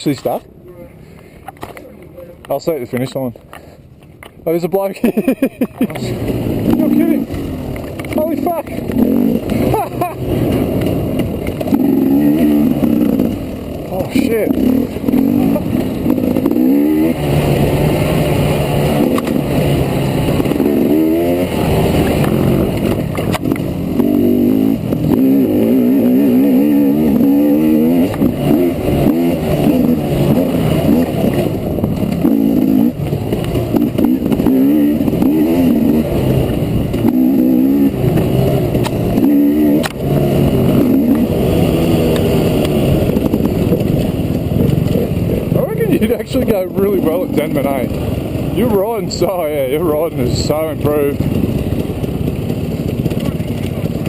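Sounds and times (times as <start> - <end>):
trail bike engine revving: 4.5 - 54.0.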